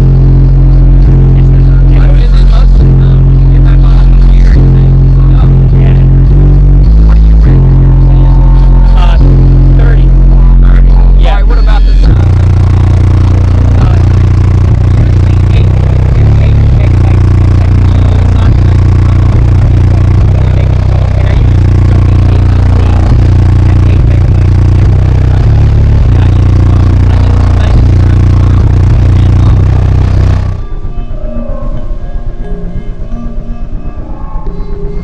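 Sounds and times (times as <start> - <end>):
subwoofers playing deep bass: 0.0 - 35.0.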